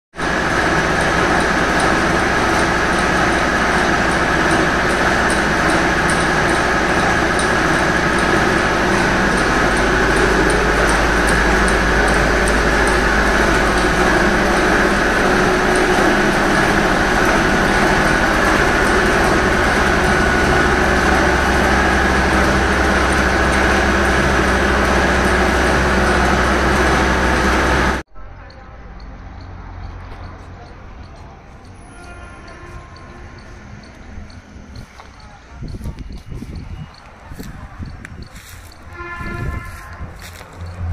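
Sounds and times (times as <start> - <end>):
soil grinding machine running: 0.2 - 28.0, 29.4 - 40.9.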